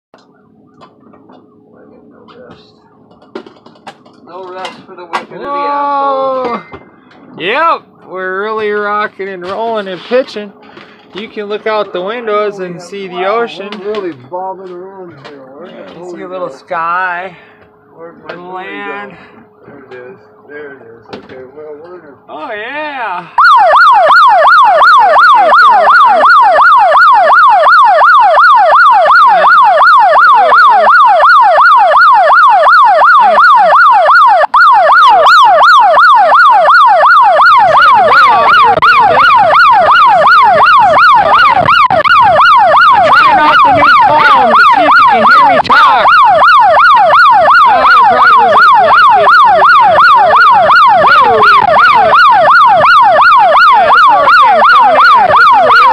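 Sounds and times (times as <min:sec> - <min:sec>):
electronic siren wailing: 0:00.2 - 0:14.1, 0:15.7 - 0:55.9.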